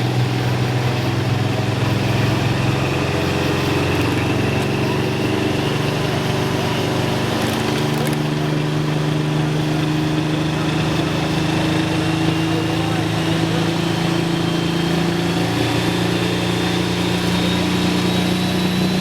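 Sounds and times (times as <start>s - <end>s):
heavy tractor engine running: 0.0s - 19.0s.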